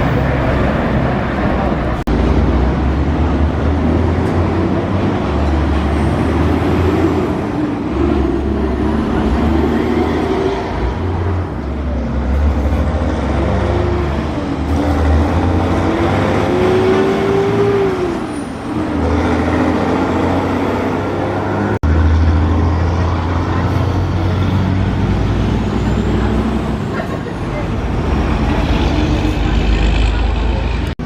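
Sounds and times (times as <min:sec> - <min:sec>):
truck engine pulling away: 0:00.0 - 0:31.0
truck engines rumbling: 0:00.0 - 0:31.0.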